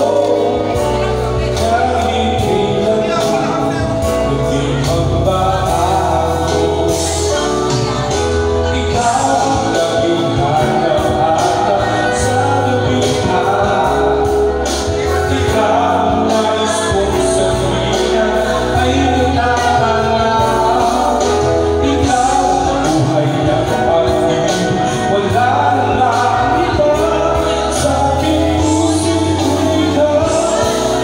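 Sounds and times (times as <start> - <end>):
bass line: 0.0 - 31.0
person singing into a microphone: 0.0 - 31.0.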